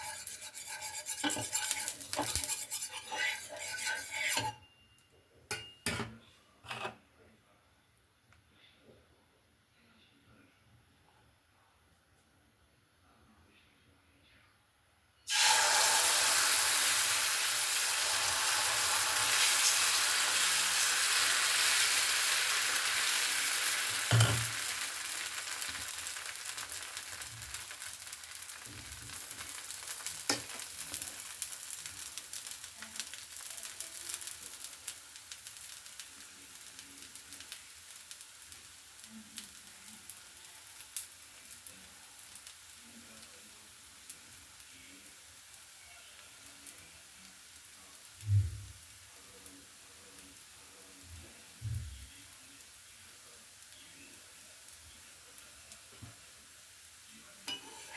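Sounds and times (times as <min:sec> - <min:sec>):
food sizzling in a hot pan: 0:00.0 - 0:04.6, 0:15.3 - 0:57.9.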